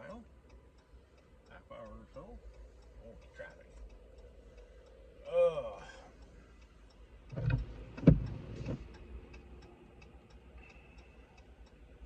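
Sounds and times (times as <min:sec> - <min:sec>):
turn signal clicking: 0:00.0 - 0:12.0.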